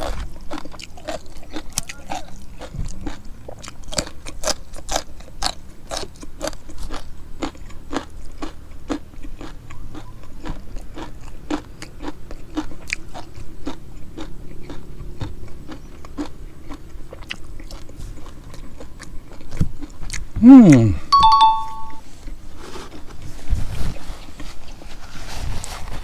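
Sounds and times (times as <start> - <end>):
person chewing crunchy food: 0.0 - 23.2.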